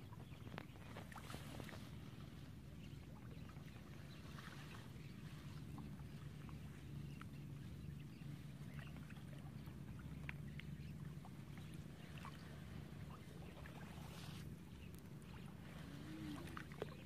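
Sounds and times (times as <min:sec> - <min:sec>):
low steady hum: 0:00.0 - 0:17.0
person wading through pond: 0:00.0 - 0:17.0.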